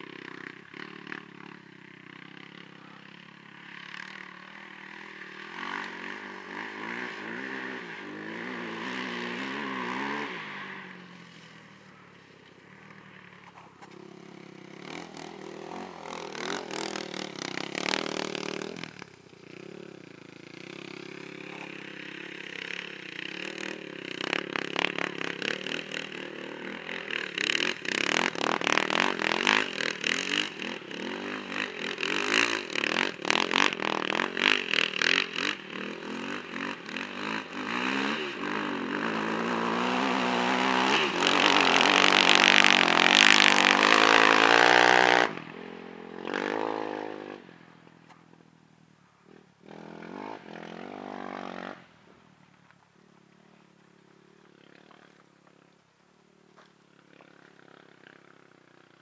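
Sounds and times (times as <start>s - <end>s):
quad engine revving: 0.0s - 11.2s, 12.7s - 47.6s, 49.3s - 51.9s.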